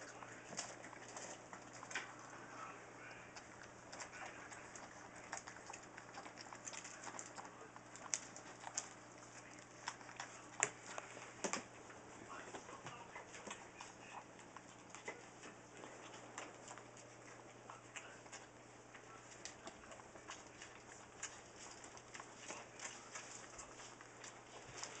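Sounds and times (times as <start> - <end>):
puppies crunching kibble: 0.0 - 25.0.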